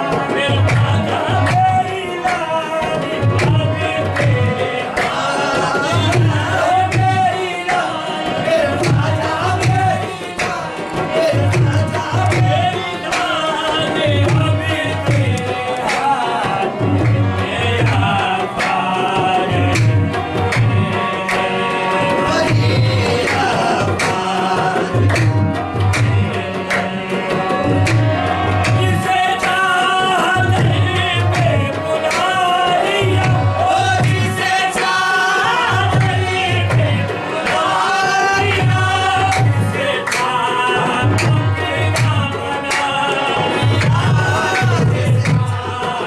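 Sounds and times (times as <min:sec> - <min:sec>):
hand claps: 0:00.0 - 0:46.0
harmonium: 0:00.0 - 0:46.0
man singing: 0:00.0 - 0:46.0.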